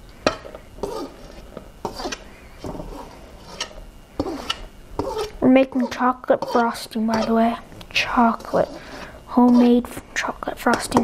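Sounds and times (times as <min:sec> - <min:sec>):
metal spoon scraping steel bowl: 0:00.3 - 0:07.4, 0:08.2 - 0:09.9.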